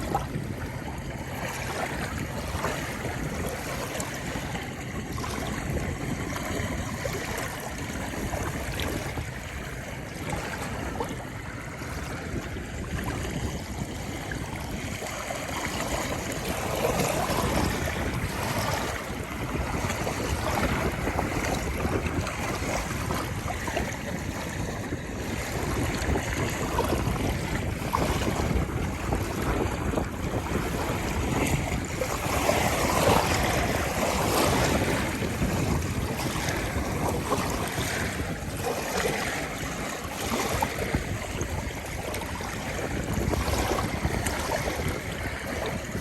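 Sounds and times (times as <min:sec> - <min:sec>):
river waves washing: 0:00.0 - 0:46.0
wind rumbling on microphone: 0:00.0 - 0:46.0.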